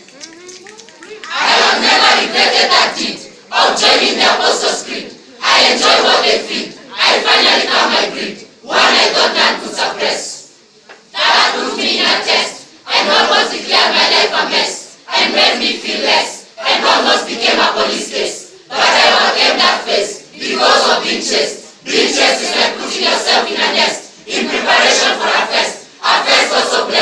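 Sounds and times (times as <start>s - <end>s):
group of voices reciting in unison: 1.2s - 27.0s.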